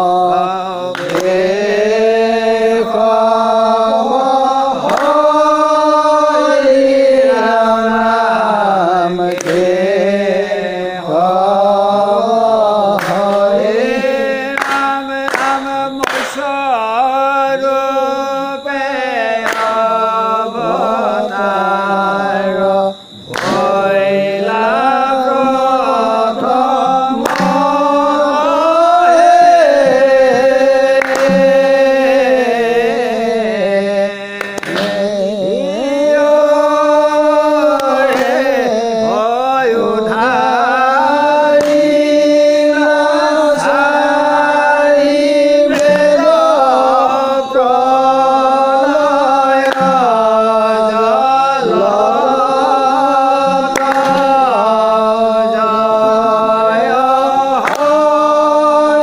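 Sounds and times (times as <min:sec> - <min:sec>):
devotional chant singing: 0:00.0 - 0:59.0.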